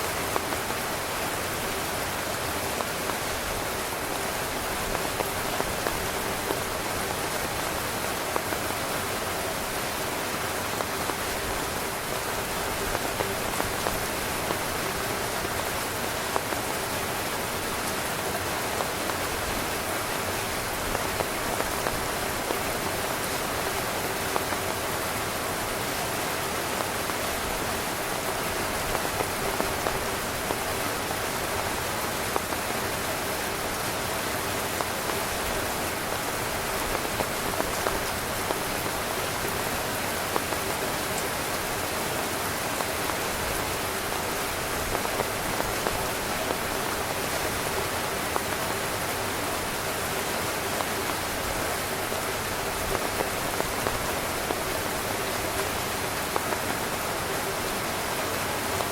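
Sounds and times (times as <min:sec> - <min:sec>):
heavy rain on a tent: 0:00.0 - 0:58.9.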